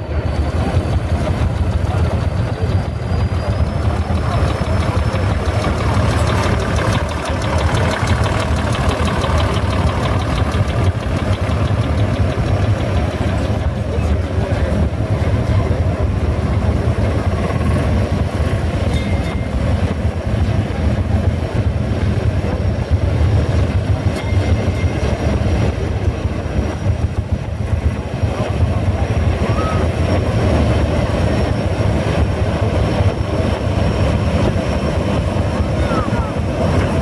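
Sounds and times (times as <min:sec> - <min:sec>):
tractor diesel engine rumble: 0:00.1 - 0:37.0.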